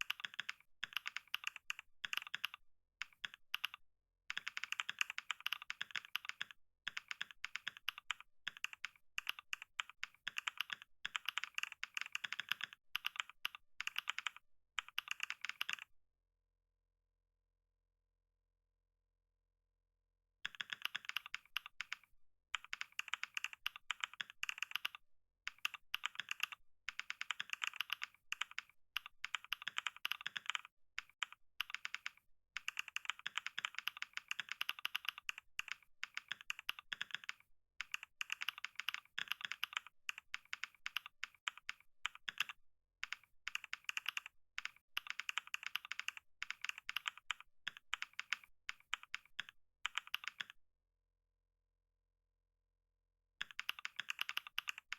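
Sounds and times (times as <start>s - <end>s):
computer keyboard typing: 0.0s - 15.9s, 20.5s - 50.6s, 53.4s - 54.9s.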